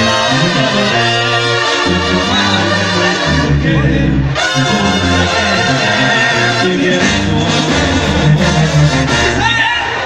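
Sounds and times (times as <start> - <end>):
brass band with percussion: 0.0 - 10.0.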